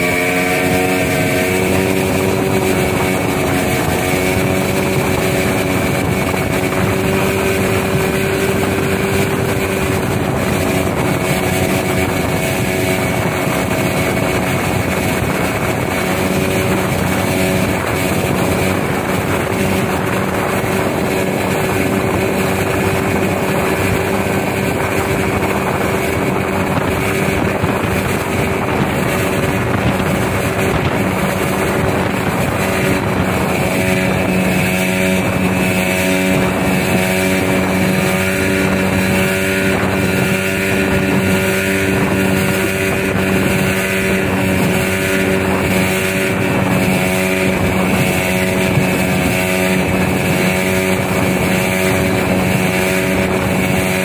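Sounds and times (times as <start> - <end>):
boat motor running: 0.0 - 54.0
water rushing: 0.0 - 54.0.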